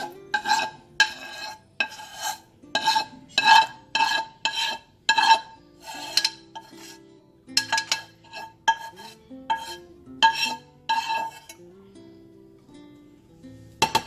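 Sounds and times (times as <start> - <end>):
spatula scraping metal saucepan: 0.0 - 11.7.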